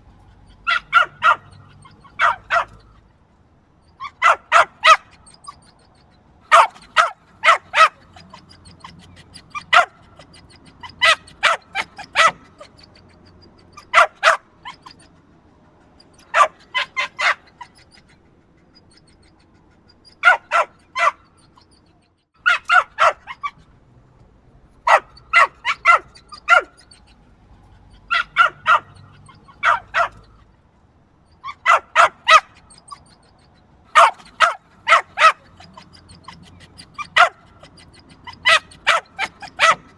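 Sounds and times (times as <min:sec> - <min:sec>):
small dog yapping: 0:00.2 - 0:03.1, 0:03.9 - 0:15.2, 0:15.8 - 0:23.7, 0:24.8 - 0:30.5, 0:31.3 - 0:39.9.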